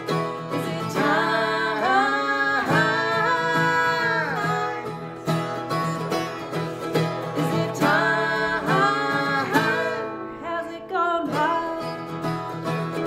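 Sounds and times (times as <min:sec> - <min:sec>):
person singing: 0:00.0 - 0:13.0
plucked strings strumming: 0:00.0 - 0:13.0.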